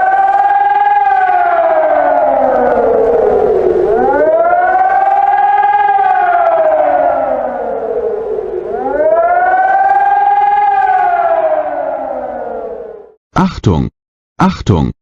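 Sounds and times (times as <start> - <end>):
alarm siren wailing: 0.0 - 13.2.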